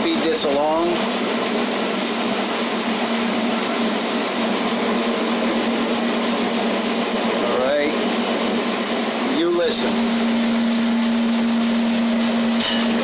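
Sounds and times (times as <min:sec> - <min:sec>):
dishwasher motor hum: 0:00.0 - 0:13.0.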